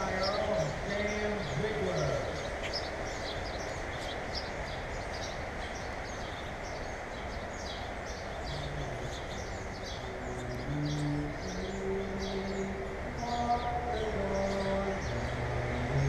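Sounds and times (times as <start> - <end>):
outdoor background hiss: 0.0 - 16.0
small birds chirping: 0.0 - 16.0.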